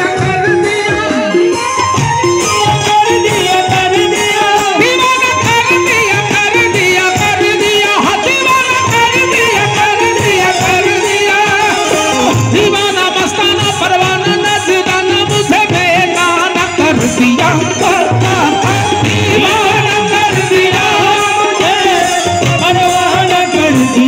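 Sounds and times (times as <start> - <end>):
hand drums beating: 0.0 - 24.0
harmonium: 0.0 - 24.0
man singing into a microphone: 0.0 - 24.0.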